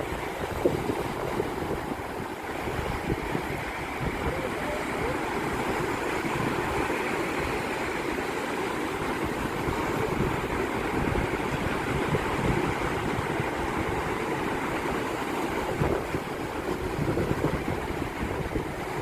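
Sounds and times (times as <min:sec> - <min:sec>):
breaking waves: 0:00.0 - 0:19.0
wind buffeting microphone: 0:00.0 - 0:19.0.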